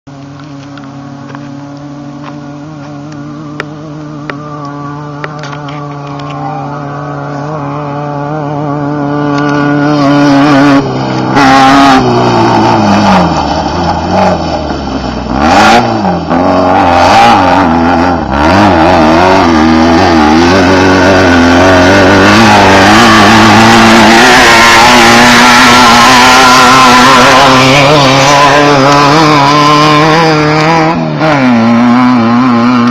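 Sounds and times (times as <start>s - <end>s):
race car engine: 0.1s - 32.9s.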